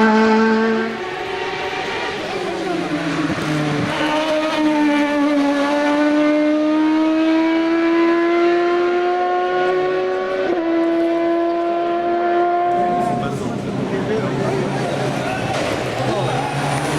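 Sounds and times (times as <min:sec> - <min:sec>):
race car engine pulling hard: 0:00.0 - 0:16.9.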